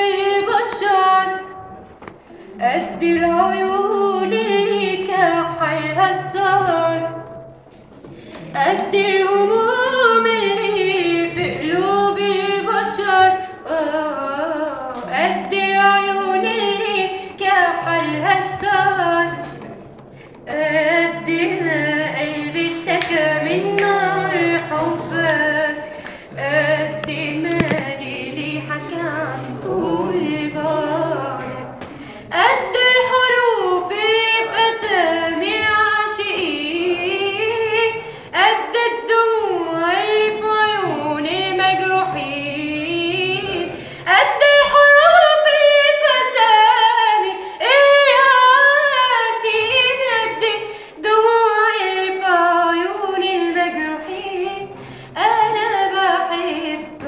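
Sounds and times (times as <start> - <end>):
girl singing: 2.6 - 7.4, 8.6 - 19.5, 20.5 - 57.0.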